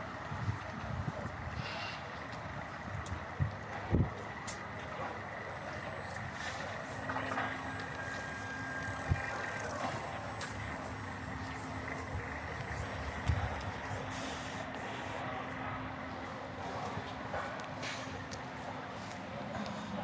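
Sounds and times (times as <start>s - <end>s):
engine low hum: 0.0s - 20.0s
vehicle traffic noise: 0.0s - 20.0s.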